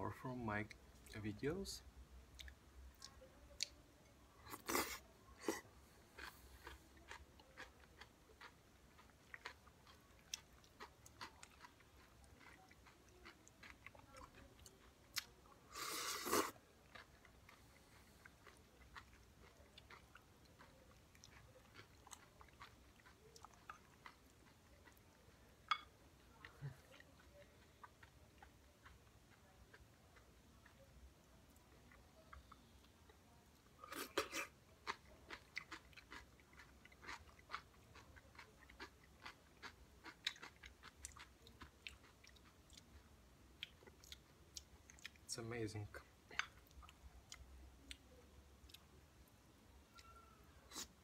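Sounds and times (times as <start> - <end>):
chewing and crunching salad: 2.3 - 3.8, 4.4 - 45.3, 46.0 - 49.0, 49.9 - 51.0.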